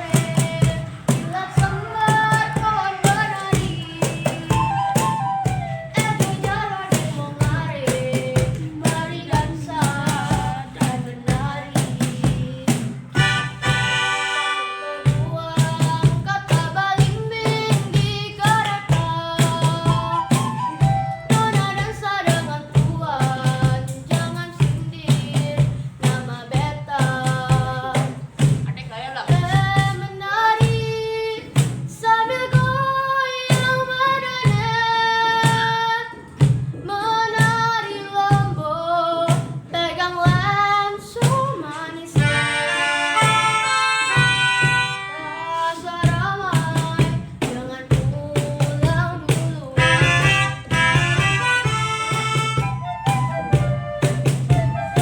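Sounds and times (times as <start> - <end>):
instrumental accompaniment: 0.0 - 55.0.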